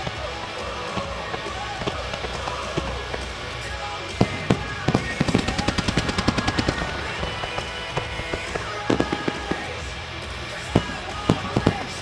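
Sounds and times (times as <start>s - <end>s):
crackling firework reports: 0.0s - 12.0s
firework bangs: 0.0s - 12.0s
loud show music: 0.0s - 12.0s.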